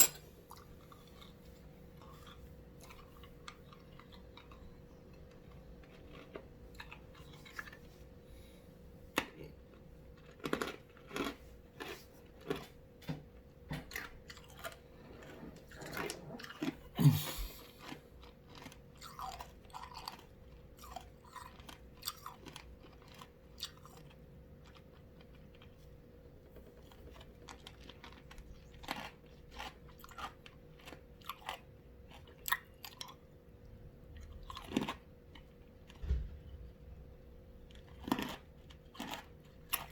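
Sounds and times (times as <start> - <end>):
ice being chewed: 0.3 - 8.5, 9.1 - 36.0, 37.6 - 39.9.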